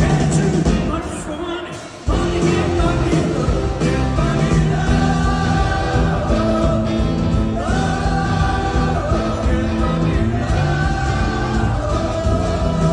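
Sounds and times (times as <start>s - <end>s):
full band playing: 0.0s - 12.9s
person singing: 0.0s - 12.9s.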